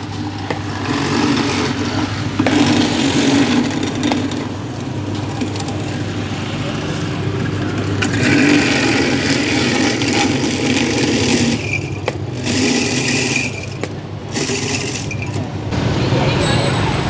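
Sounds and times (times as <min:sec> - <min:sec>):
electric ice shaver motor: 0:00.0 - 0:15.5.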